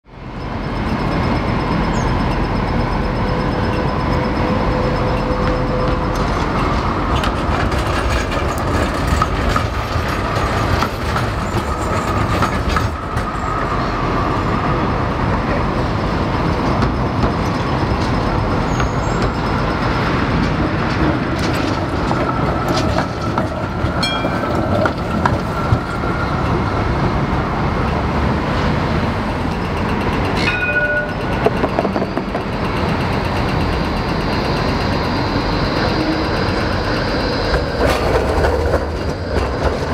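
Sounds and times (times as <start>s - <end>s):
city traffic rush: 0.0s - 39.9s
tram wheels rolling on track: 0.1s - 39.9s.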